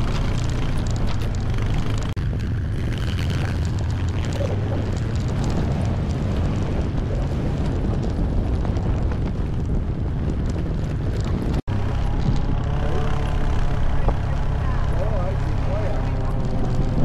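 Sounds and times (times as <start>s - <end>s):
off-road vehicle engine running: 0.0s - 17.0s
wind noise: 0.0s - 17.0s.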